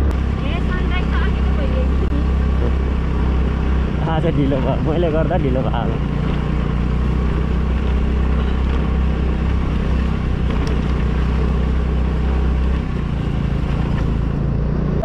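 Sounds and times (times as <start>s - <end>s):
road noise on gravel: 0.0s - 15.0s
scooter engine running: 0.0s - 15.0s.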